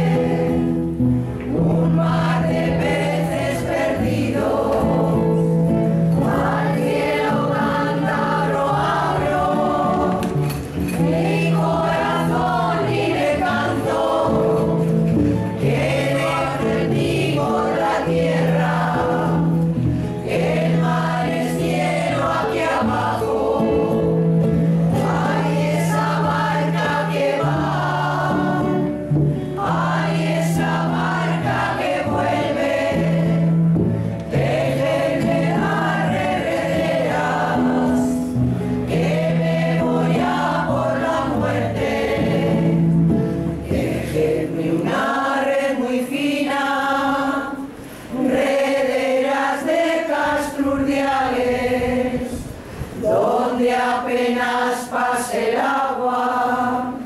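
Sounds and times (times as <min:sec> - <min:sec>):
women's choir singing: 0:00.0 - 0:57.0.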